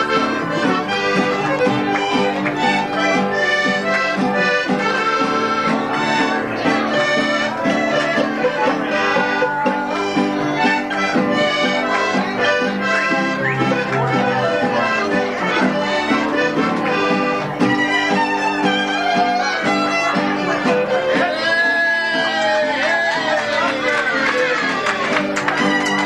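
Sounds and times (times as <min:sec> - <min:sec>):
button accordion: 0:00.0 - 0:22.2, 0:23.6 - 0:26.0
violin: 0:00.0 - 0:22.4, 0:23.1 - 0:26.0
strummed guitars: 0:00.0 - 0:26.0.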